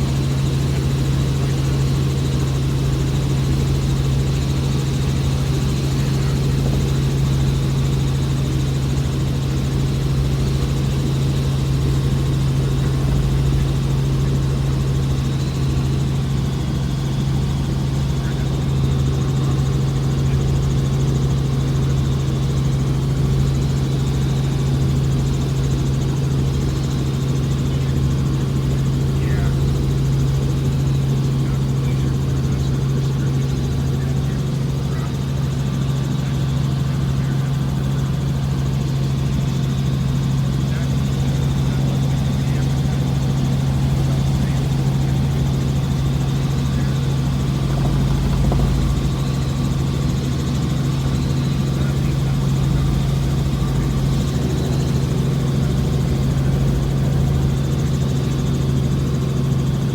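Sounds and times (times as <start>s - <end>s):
helicopter droning in flight: 0.0s - 59.9s.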